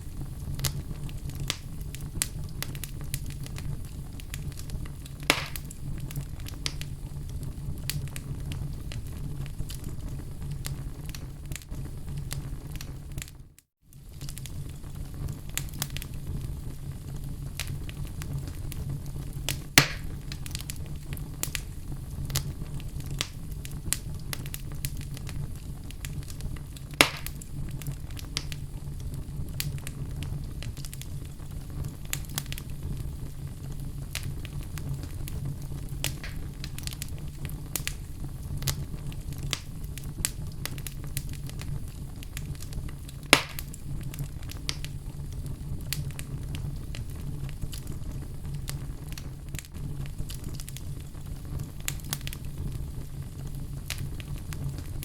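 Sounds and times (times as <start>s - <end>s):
loud fire pops: 0.0s - 55.0s
wood fire crackling: 0.0s - 55.0s.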